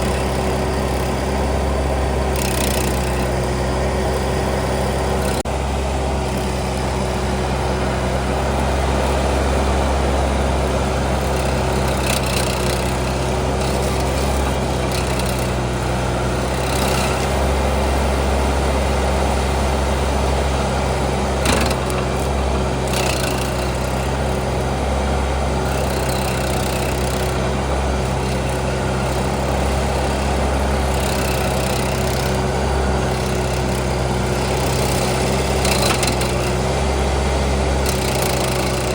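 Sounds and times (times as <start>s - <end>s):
engine running under load: 0.0s - 38.9s
stump grinder whine: 0.0s - 38.9s.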